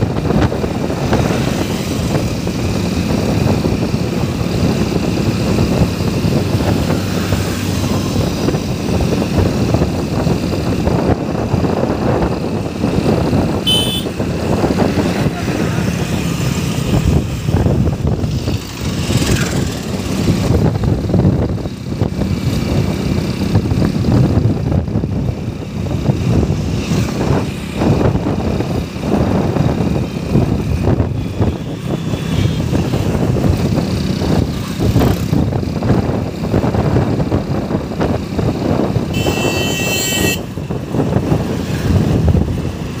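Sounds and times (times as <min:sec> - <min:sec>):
motorcycle engine and road noise: 0:00.0 - 0:43.0
wind buffeting microphone: 0:00.0 - 0:43.0.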